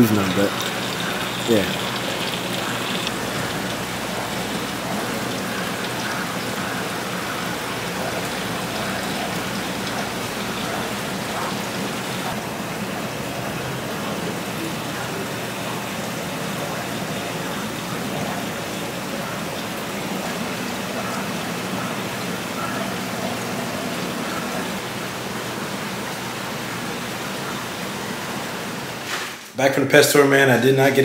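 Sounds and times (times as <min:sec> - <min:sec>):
water rushing and splashing: 0:00.0 - 0:29.0.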